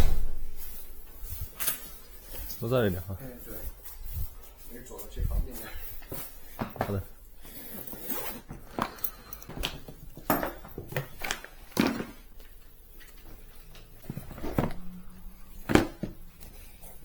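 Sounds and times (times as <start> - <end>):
objects being handled and set down: 0.0 - 17.0.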